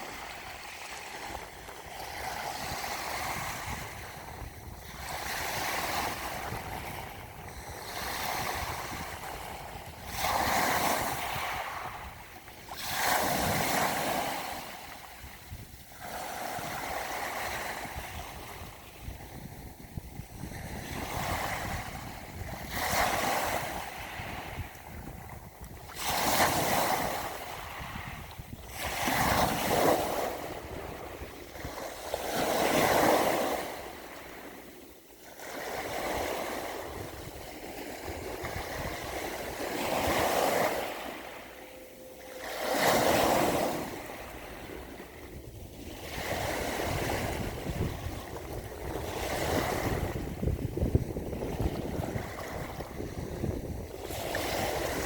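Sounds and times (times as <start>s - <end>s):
sea waves breaking: 0.0s - 55.0s.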